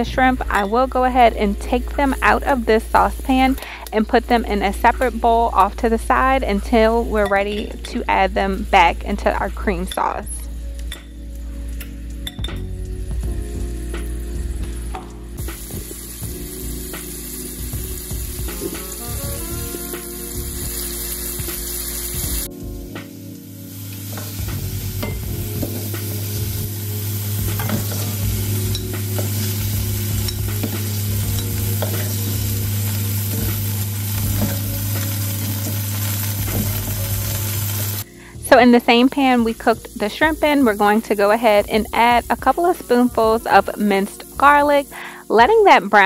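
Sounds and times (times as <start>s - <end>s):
shrimp sizzling in a frying pan: 0.0s - 12.2s, 12.9s - 46.0s.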